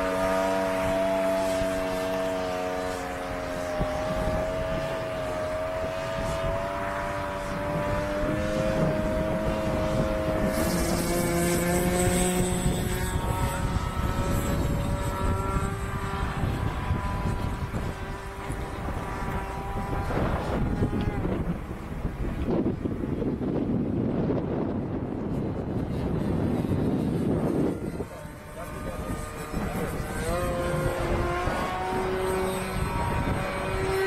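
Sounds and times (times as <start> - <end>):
model airplane engine and propeller: 0.0 - 34.0.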